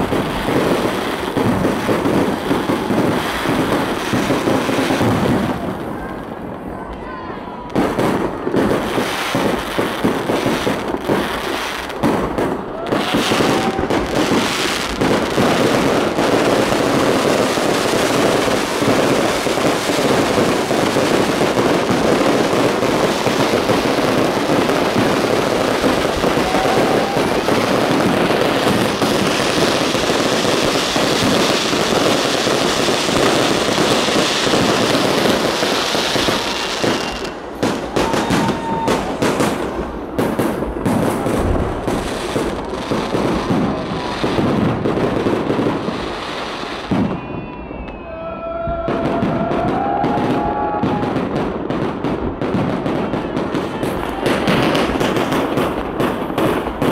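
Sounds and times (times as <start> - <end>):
sharp firework bangs: 0.0 - 6.1, 7.7 - 56.9
fireworks bursting and crackling: 0.0 - 56.9.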